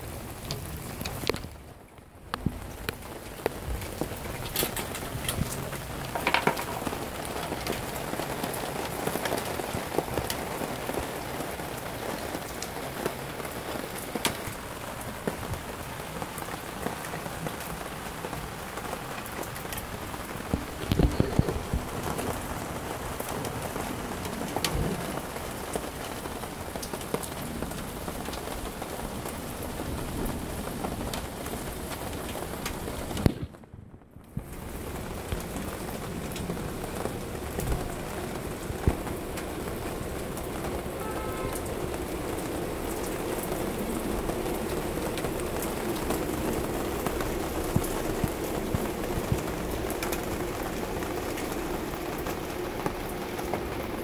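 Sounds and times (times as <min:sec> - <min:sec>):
rain pattering on paving: 0:00.0 - 0:54.0.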